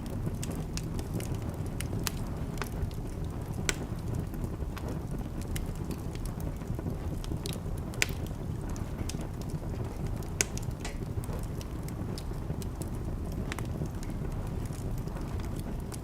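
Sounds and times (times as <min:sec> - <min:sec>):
fire crackling and popping: 0:00.0 - 0:16.0
fire flames rushing: 0:00.0 - 0:16.0.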